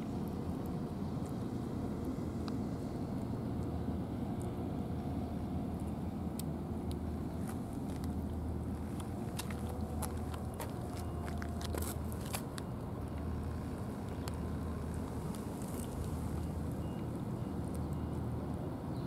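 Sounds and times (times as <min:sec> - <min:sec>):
steady low rumble: 0:00.0 - 0:18.4.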